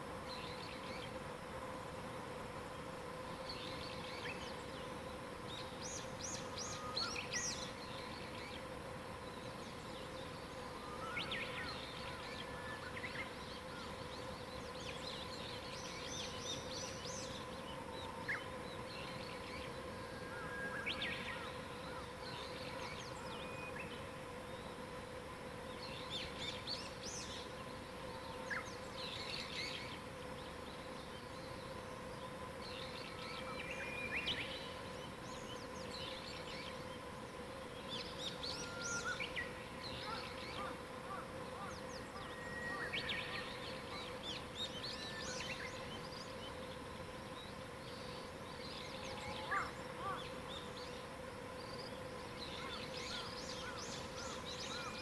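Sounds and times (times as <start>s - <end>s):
faint hiss: 0.0s - 55.0s
songbirds chirping and trilling: 2.8s - 55.0s.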